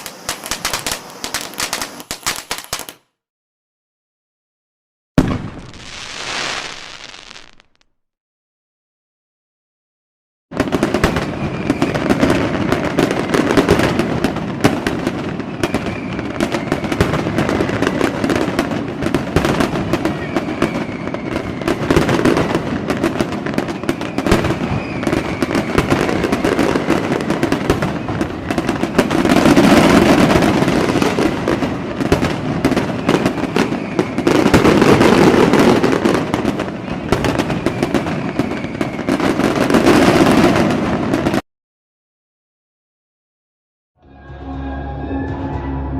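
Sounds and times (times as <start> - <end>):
fireworks crackling and popping: 0.0 - 3.1, 5.2 - 8.1, 10.6 - 41.4.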